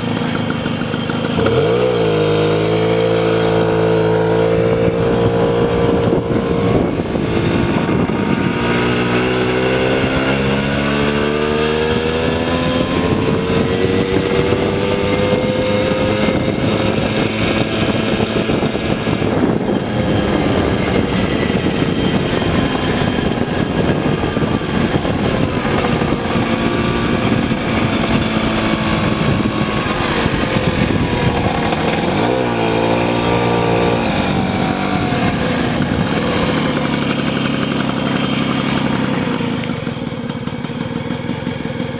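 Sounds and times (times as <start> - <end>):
moped engine running: 0.0 - 41.9.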